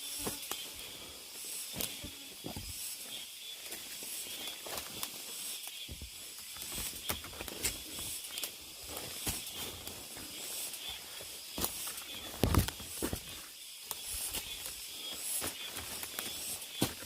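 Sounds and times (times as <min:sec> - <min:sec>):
cicadas droning: 0:00.0 - 0:17.0
footsteps on trail: 0:00.0 - 0:17.0.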